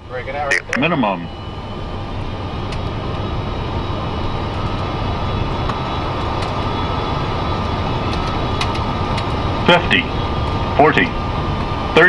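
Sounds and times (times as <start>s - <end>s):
airflow and engine rush: 0.2s - 12.0s.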